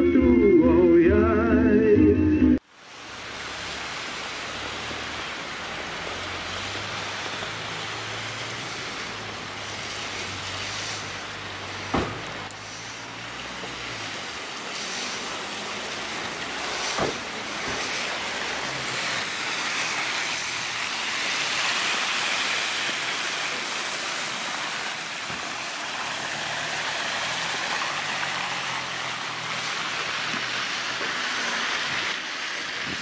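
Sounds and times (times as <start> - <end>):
van passing: 0.0 - 33.0
tyres hissing on wet road: 2.6 - 33.0.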